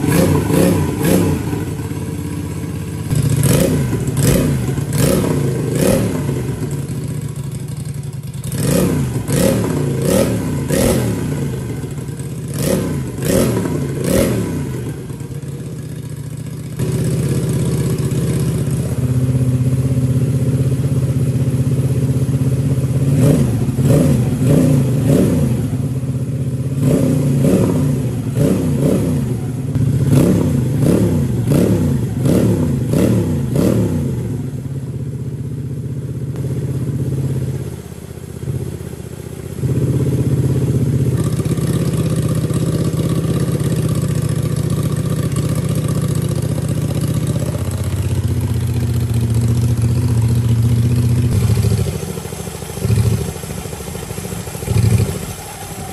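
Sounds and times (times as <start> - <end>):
engine revving and idling: 0.0 - 55.9.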